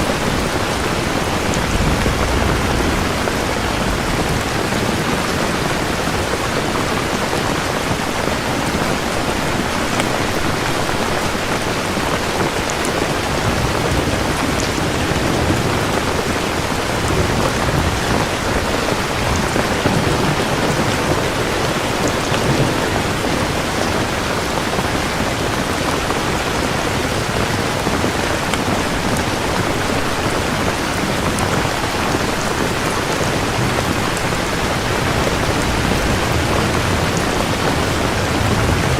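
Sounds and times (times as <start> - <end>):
low thunder rumbling: 0.0 - 8.2, 10.8 - 28.0, 28.7 - 38.9
rain pouring down: 0.0 - 38.9.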